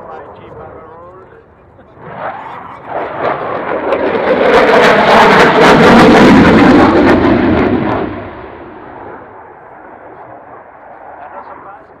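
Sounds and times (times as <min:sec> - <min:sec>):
jet fly-by rumble: 0:00.0 - 0:12.0.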